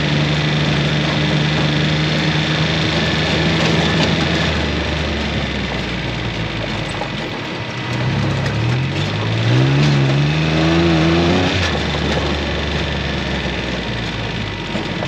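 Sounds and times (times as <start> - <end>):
vehicle engine accelerating: 0.0 - 15.0.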